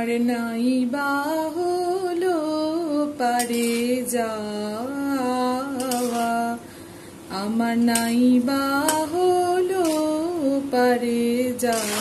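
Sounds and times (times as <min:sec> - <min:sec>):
person singing slow song: 0:00.0 - 0:06.7, 0:07.3 - 0:12.0.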